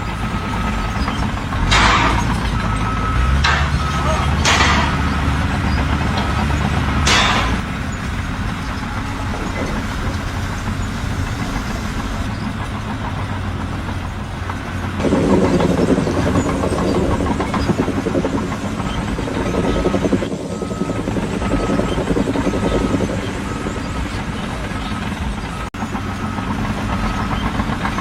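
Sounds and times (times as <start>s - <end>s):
heavy engine running: 0.0s - 28.0s.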